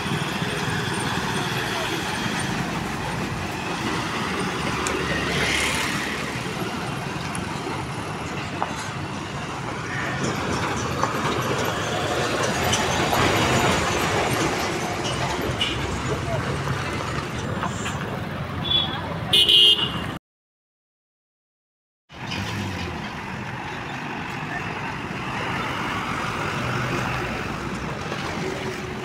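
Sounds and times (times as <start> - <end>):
trucks driving past: 0.0 - 20.2, 22.1 - 29.0.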